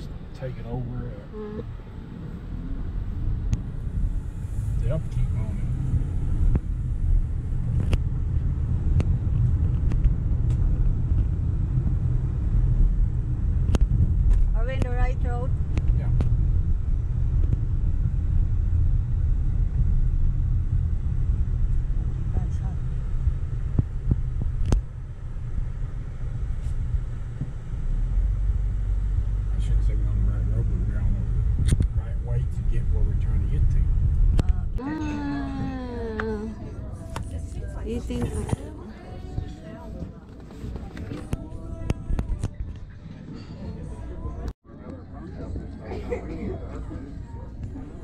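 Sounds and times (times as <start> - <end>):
car cabin rumble: 0.0 - 43.0.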